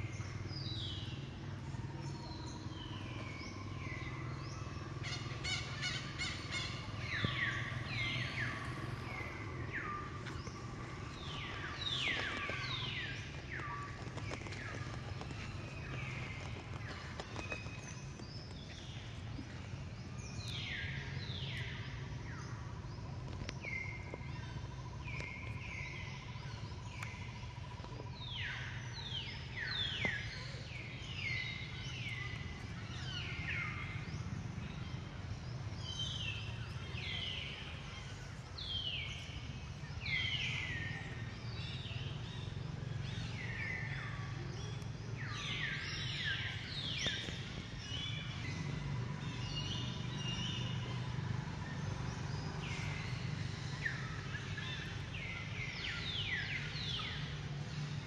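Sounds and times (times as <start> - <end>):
low outdoor hum: 0.0 - 58.0.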